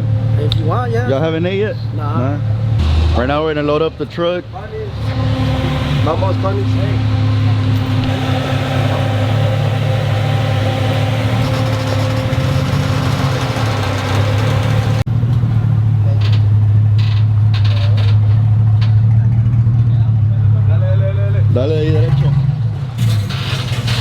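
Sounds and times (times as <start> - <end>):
pickup truck engine idling: 0.0 - 21.6.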